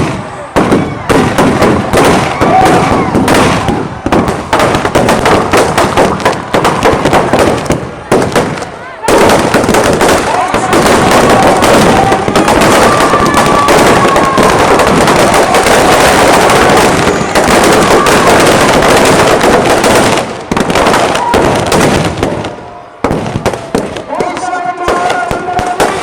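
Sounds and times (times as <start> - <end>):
firecrackers crackling and banging: 0.0 - 26.0.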